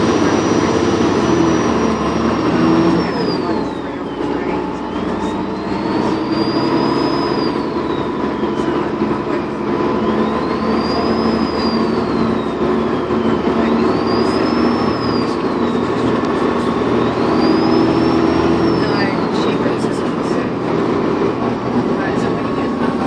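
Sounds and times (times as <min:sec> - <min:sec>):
bus diesel engine under load: 0:00.0 - 0:23.0
turbocharger whistle: 0:00.0 - 0:23.0.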